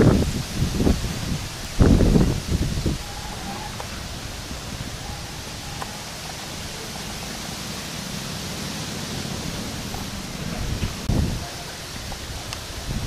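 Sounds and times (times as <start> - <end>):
gusty wind through trees: 0.0 - 13.0
wind buffeting microphone: 0.0 - 13.0.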